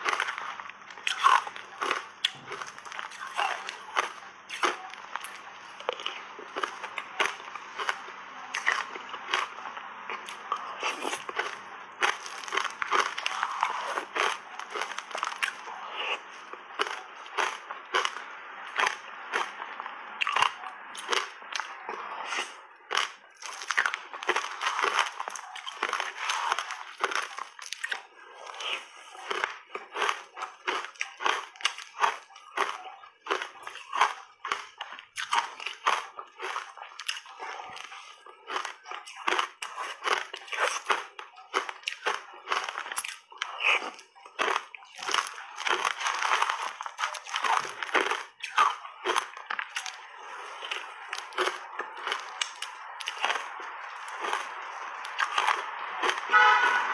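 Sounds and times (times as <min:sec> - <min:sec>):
crunching shaved ice: 0:00.0 - 0:56.9.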